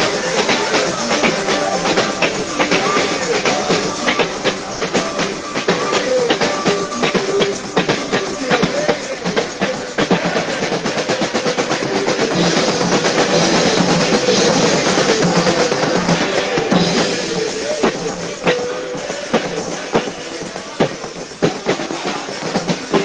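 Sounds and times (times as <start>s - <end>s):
conga drums played by hand: 0.0s - 23.0s
drum kit with cymbals: 0.0s - 23.0s
live band music: 0.0s - 23.0s.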